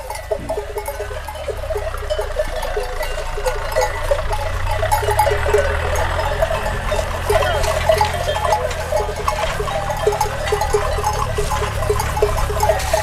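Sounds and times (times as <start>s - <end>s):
animal neck bells clanking: 0.0s - 13.0s
steady low rumble: 0.0s - 13.0s.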